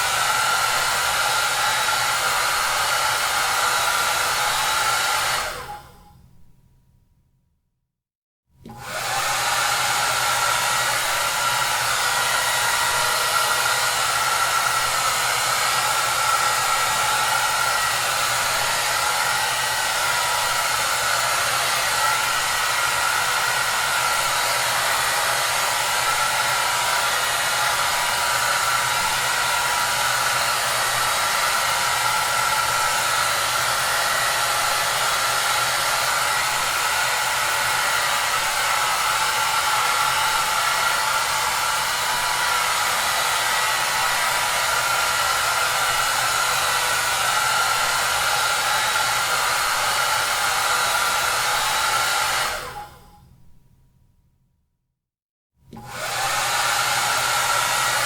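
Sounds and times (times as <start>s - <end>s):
hair dryer running: 0.0s - 6.1s, 8.6s - 53.2s, 55.7s - 58.0s.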